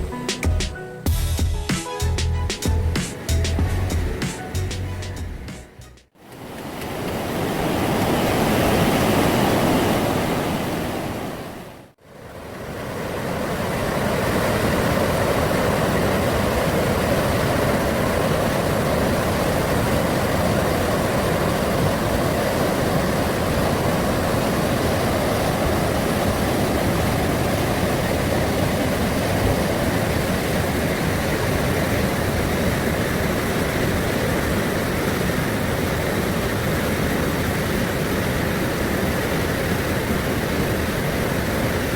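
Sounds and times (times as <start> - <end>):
stream rushing over rocks: 6.3 - 41.9.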